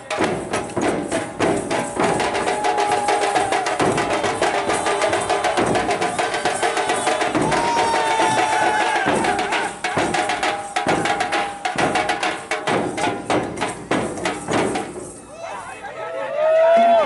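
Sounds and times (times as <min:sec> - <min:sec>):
barrel drums beaten fast: 0:00.0 - 0:15.4.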